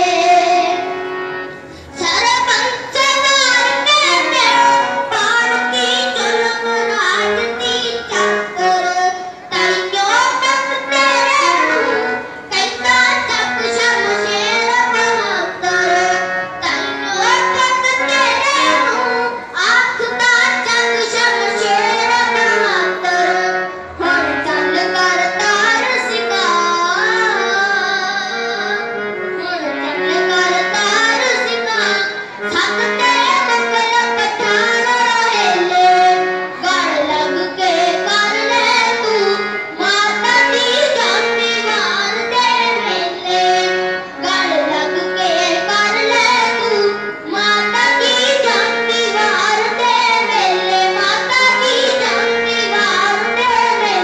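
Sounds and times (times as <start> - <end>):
boy singing into microphone: 0.0 - 54.0.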